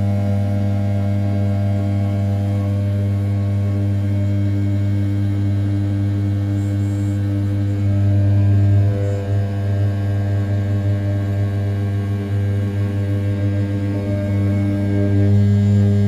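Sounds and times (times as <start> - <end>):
milling spindle humming: 0.0 - 16.0.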